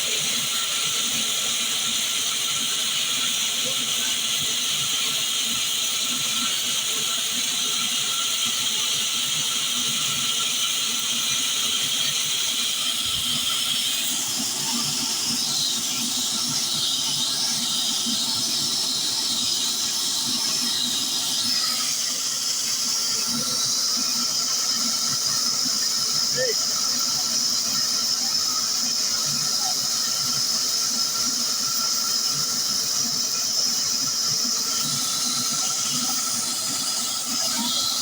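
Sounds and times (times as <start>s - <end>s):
wood-cutting saw machine running: 0.1s - 38.0s.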